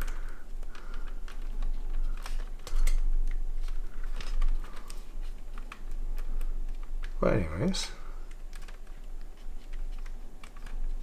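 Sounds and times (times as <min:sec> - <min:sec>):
hands clicking and tapping parts: 0:00.0 - 0:07.6, 0:08.2 - 0:11.0
low steady hum: 0:00.0 - 0:11.0.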